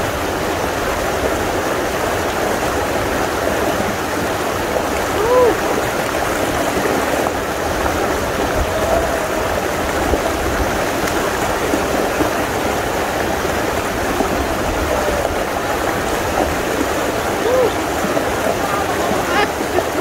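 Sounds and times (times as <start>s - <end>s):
river water rushing over stones: 0.0s - 20.0s.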